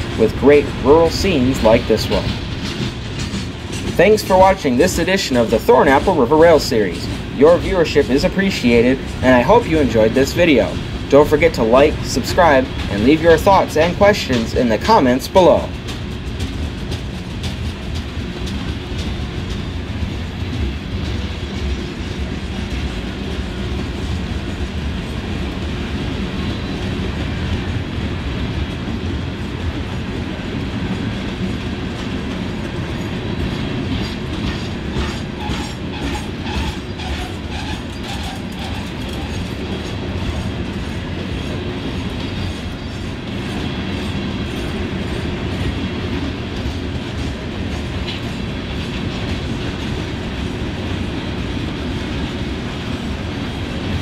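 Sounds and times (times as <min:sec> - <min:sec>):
freight train rumbling past: 0:00.0 - 0:54.0
wheels clicking over rail joints: 0:00.0 - 0:54.0.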